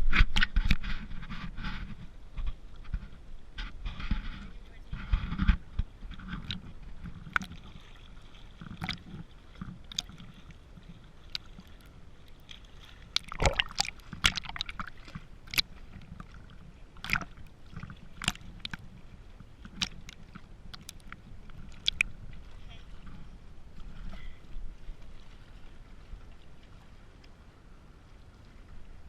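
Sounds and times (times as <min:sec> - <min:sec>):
lake water sloshing: 0:01.0 - 0:29.0.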